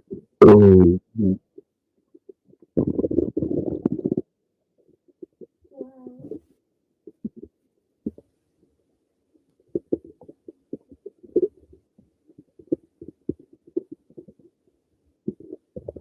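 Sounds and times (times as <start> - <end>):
stomach gurgling: 0.0 - 8.4, 9.3 - 16.0.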